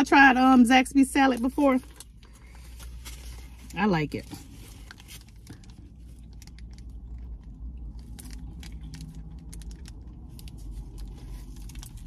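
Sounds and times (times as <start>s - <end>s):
low steady rumble: 0.0s - 12.0s
plastic packet crinkling: 1.4s - 12.0s.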